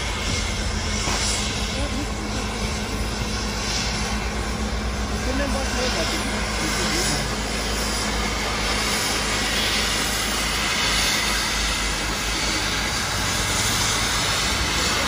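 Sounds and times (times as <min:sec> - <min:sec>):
steam locomotive running: 0:00.0 - 0:15.0.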